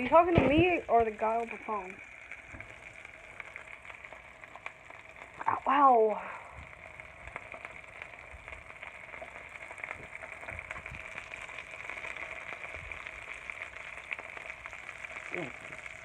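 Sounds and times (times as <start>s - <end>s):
butter crackling pops: 0.0s - 5.8s, 6.6s - 16.0s
food sizzling in butter: 0.0s - 16.0s.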